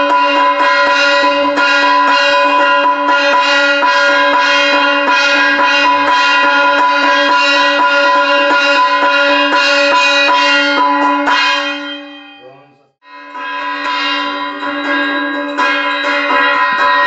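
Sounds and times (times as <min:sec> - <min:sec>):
hand bell ringing rapidly: 0:00.0 - 0:12.4, 0:13.4 - 0:17.0.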